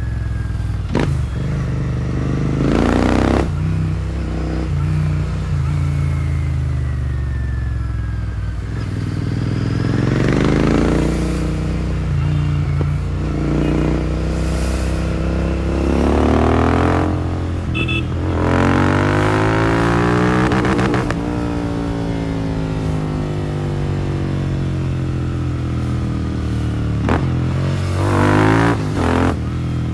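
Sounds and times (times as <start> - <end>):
motorcycle engine accelerating: 0.0 - 29.9.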